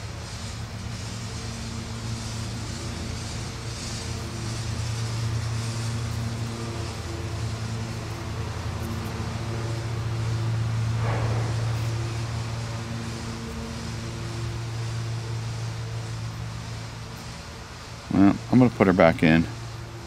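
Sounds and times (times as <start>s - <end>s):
honeybees humming: 0.0s - 20.0s.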